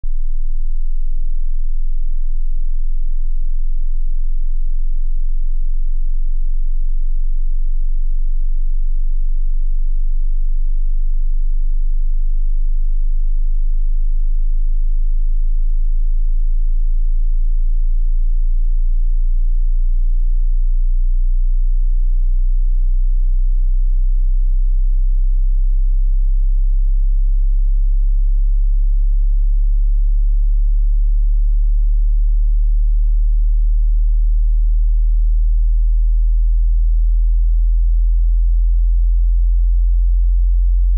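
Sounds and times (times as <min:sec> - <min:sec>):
low sine tone rising in pitch: 0:00.0 - 0:40.9.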